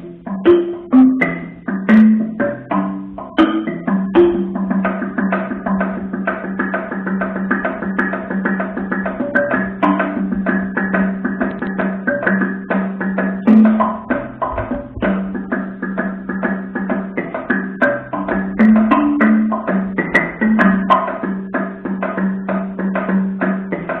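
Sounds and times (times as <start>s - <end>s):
low pitched notes: 0.0s - 22.8s
experimental percussion music: 0.0s - 24.0s.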